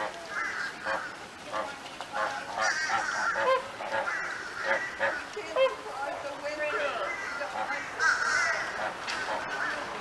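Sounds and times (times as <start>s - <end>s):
flamingos honking: 0.0s - 10.0s.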